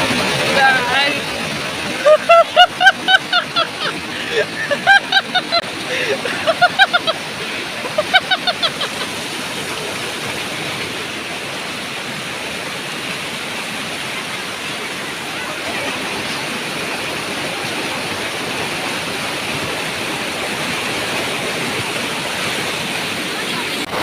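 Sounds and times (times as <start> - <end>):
rushing stream water: 0.0 - 24.0.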